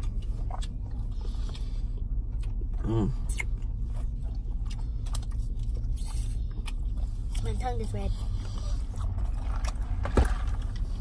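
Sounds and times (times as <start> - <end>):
low car cabin hum: 0.0 - 11.0
people chewing: 0.0 - 11.0.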